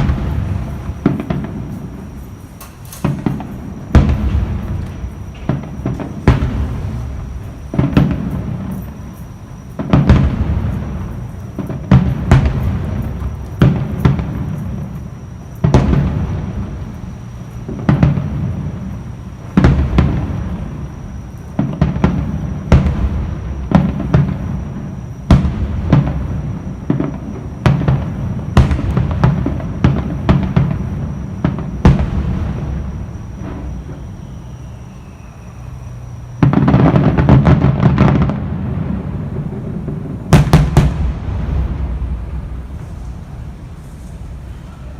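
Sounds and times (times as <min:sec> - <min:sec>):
fireworks banging: 0:00.0 - 0:44.9
fireworks rumble: 0:00.0 - 0:44.9.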